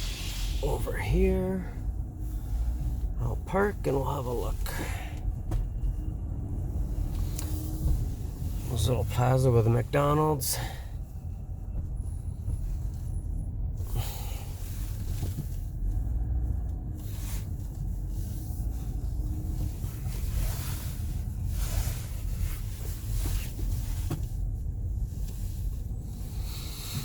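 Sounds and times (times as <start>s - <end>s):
engine and road noise in car cabin: 0.0s - 27.0s.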